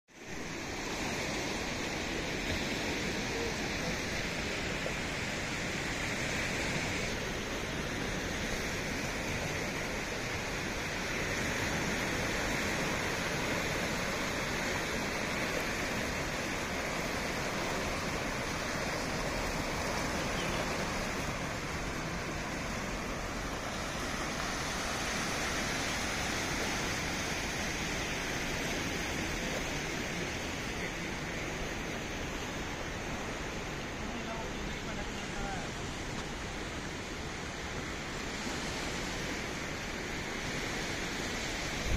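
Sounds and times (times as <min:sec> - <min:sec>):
waves washing over shore: 0:00.2 - 0:41.9.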